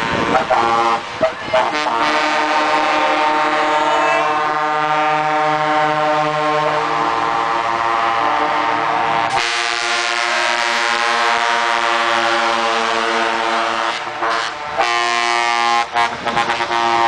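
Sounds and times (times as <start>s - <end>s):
truck air horns: 0.0s - 17.0s
trucks passing by: 0.0s - 17.0s.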